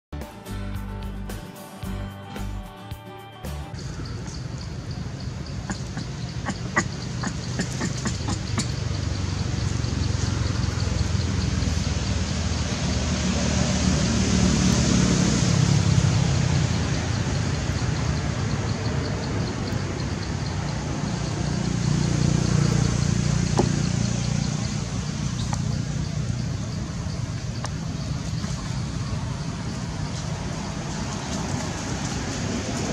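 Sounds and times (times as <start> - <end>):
low engine-like rumble: 3.8 - 32.9.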